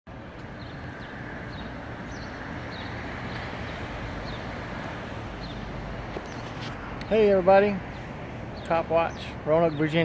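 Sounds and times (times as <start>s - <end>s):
distant traffic hum: 0.1s - 10.0s.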